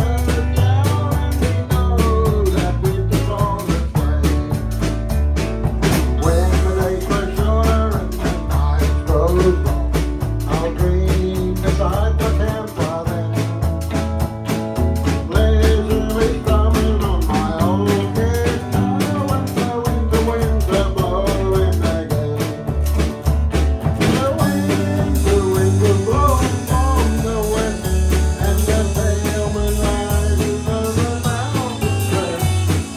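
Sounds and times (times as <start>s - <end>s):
person singing: 0.0s - 4.7s, 6.2s - 13.7s, 15.2s - 22.7s, 24.0s - 32.9s
rock band playing: 0.0s - 32.9s.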